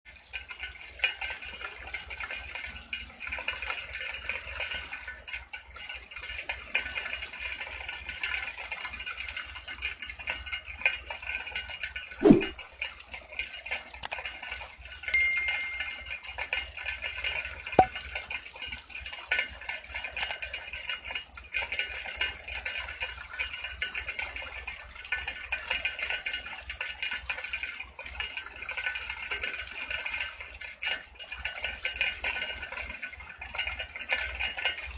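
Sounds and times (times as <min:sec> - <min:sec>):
steady rain falling: 0:00.1 - 0:15.1, 0:16.0 - 0:34.9
sharp drips and knocks: 0:00.3 - 0:34.9.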